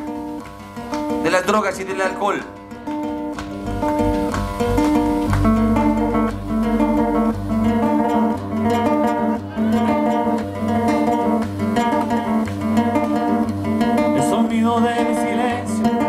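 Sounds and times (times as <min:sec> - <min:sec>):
strummed guitar: 0:00.0 - 0:16.0
bass line: 0:02.9 - 0:16.0.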